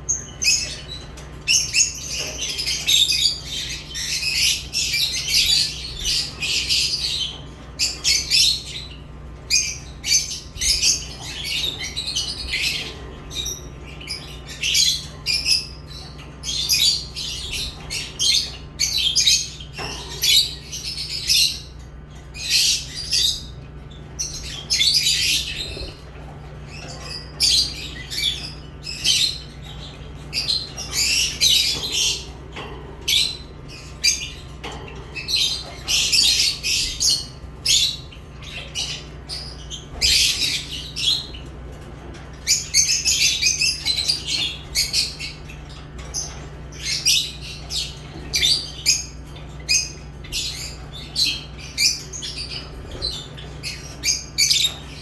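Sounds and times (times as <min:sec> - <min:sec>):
lovebirds chirping and squawking: 0:00.0 - 0:55.0
steady low hum: 0:00.0 - 0:55.0.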